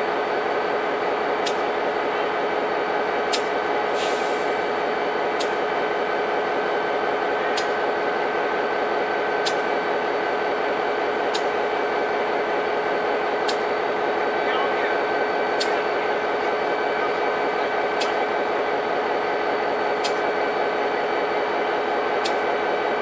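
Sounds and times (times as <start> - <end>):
diesel locomotive idling: 0.0 - 23.0.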